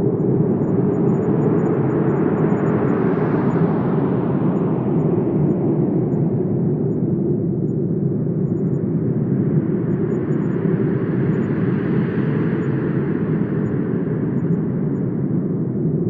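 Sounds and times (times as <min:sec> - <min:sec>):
wind blowing with deep rumble: 0:00.0 - 0:16.0.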